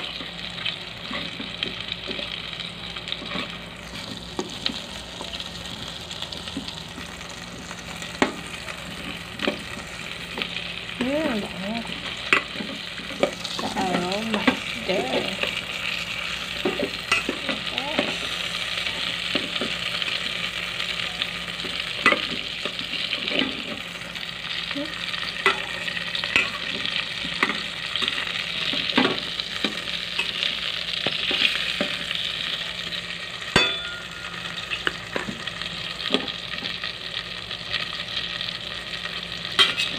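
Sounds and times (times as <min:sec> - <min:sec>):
food sizzling in butter: 0:00.0 - 0:39.9.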